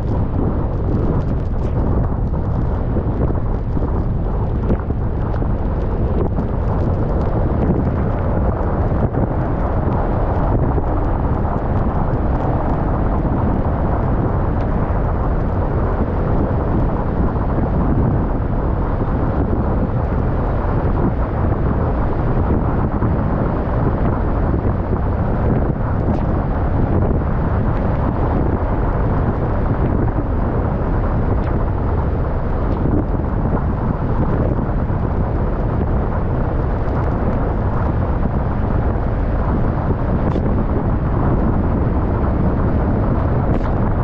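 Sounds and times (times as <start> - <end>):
car road and wind noise: 0.0 - 44.0.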